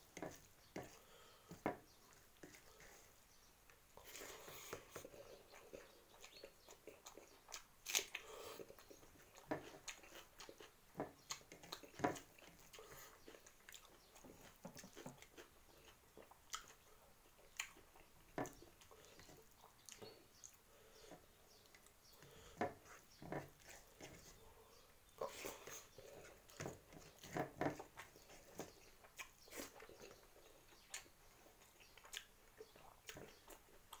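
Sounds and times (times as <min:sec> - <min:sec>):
person chewing: 0:04.0 - 0:34.0.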